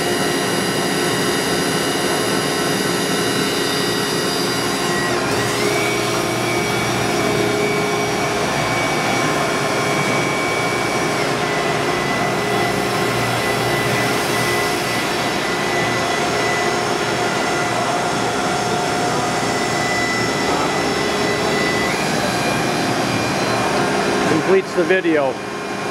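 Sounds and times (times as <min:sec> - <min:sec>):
machine hum and hiss: 0:00.0 - 0:25.9
machine whining tone: 0:00.0 - 0:25.9.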